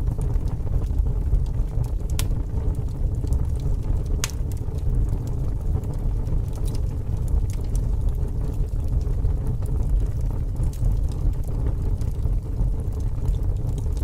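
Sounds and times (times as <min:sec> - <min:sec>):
fire crackling with pops: 0:00.0 - 0:14.0.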